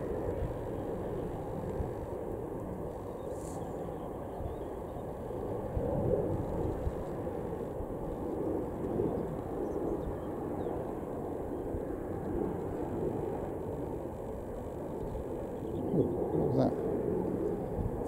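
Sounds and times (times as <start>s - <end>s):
jet engine rumble: 0.0s - 18.0s.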